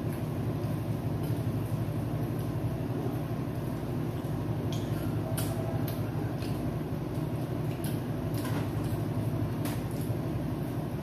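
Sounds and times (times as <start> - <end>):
people eating with hands: 0.0 - 11.0
steady low hum: 0.0 - 11.0.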